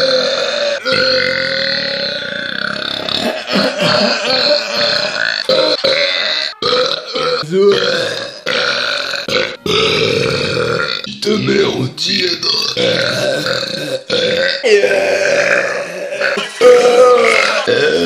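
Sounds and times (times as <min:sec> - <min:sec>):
person burping loudly: 0:00.0 - 0:11.2, 0:12.4 - 0:18.0.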